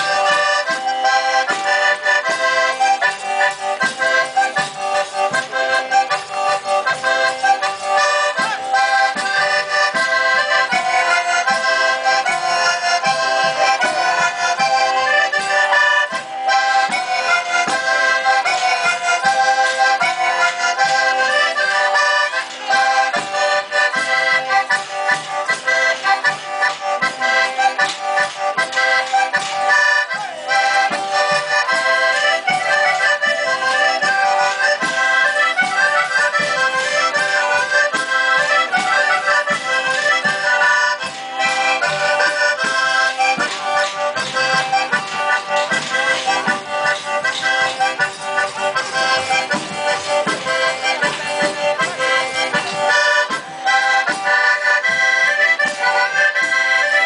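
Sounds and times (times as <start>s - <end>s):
accordion folk dance tune: 0.0s - 57.0s
steady beat: 0.0s - 57.0s.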